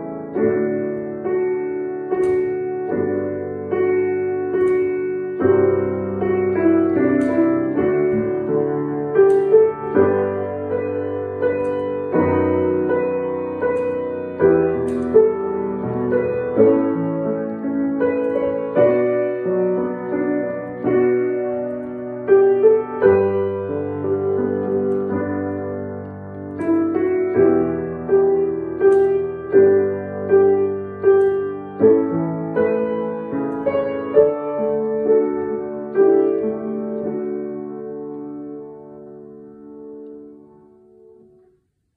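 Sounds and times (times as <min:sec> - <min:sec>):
piano chords and melody: 0:00.0 - 0:41.9.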